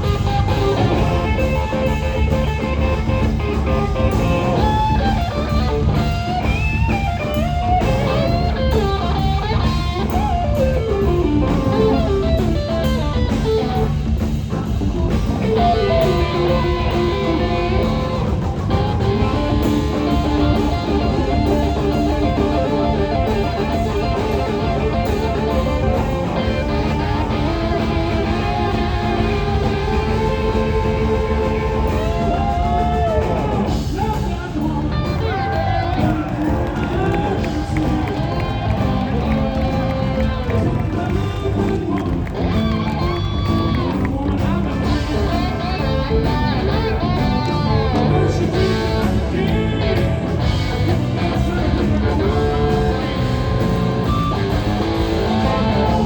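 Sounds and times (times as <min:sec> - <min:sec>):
blues-rock band playing: 0:00.0 - 0:56.0
electric guitar bending notes: 0:00.0 - 0:56.0.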